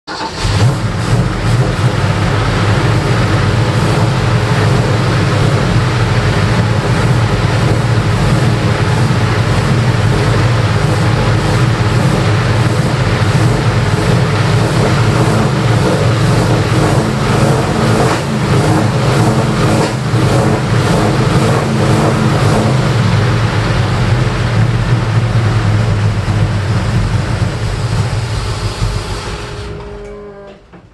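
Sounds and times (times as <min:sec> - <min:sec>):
car engine running: 0:00.0 - 0:30.2.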